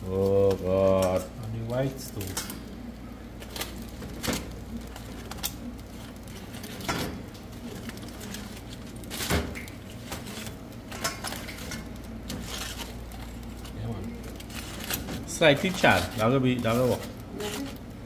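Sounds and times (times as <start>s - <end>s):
aluminium foil crinkling: 0.0s - 18.0s.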